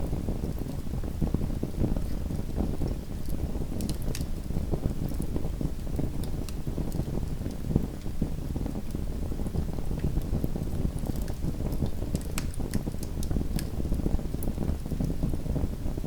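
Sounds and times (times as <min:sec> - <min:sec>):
wood fire crackling: 0:00.0 - 0:15.8.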